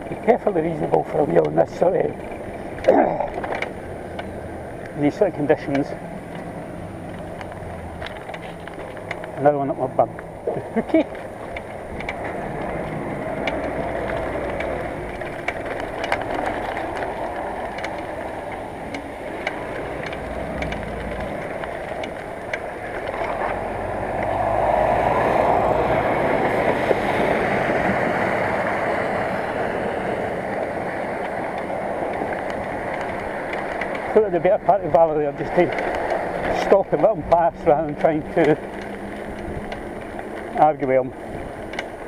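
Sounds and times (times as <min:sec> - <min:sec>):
motor vehicle passing: 0:00.0 - 0:42.0
wind and road noise from bicycle: 0:00.0 - 0:42.0.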